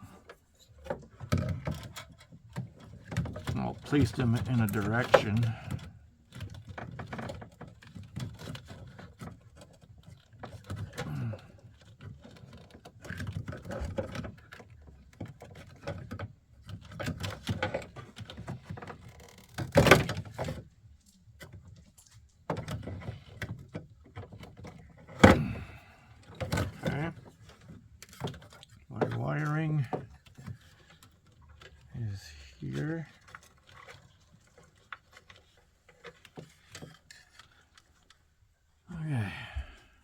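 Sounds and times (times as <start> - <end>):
clicks and rustling: 0.2 - 38.4.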